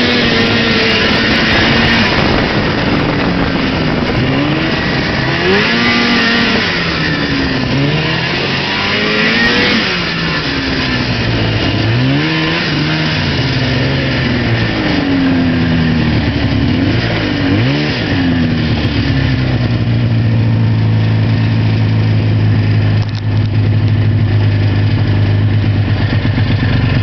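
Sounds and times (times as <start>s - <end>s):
snowmobile engine revving: 0.0s - 27.0s.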